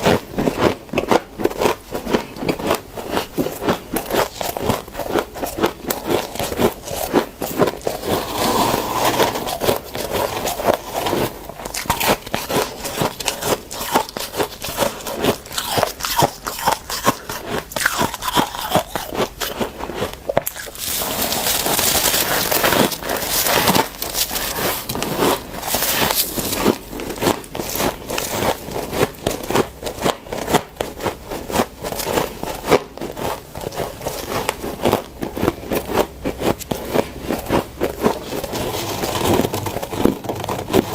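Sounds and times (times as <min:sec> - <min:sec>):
frost crunching as chewed: 0:00.0 - 0:40.9.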